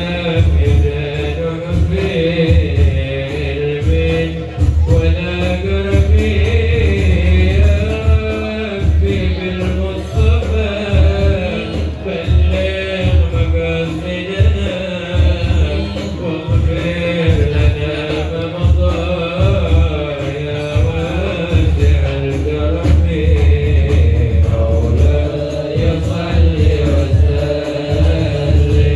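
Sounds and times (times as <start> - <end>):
low beat: 0.0 - 28.9
men singing devotional chant: 0.0 - 28.9.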